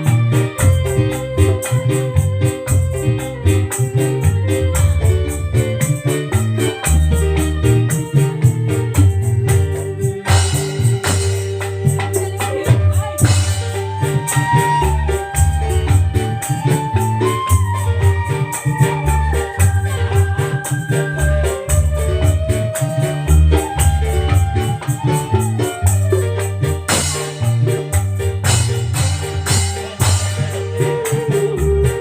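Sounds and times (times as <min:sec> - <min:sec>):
fast shaker rhythm: 0:00.0 - 0:32.0
keyboard melody: 0:00.0 - 0:32.0
loud music with heavy bass: 0:00.0 - 0:32.0.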